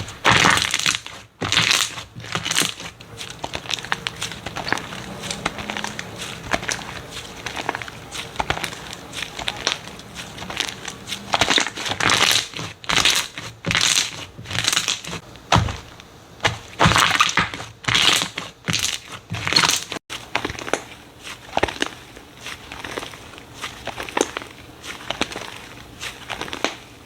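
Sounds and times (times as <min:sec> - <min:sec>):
slime squishing by hand: 0:00.0 - 0:27.0.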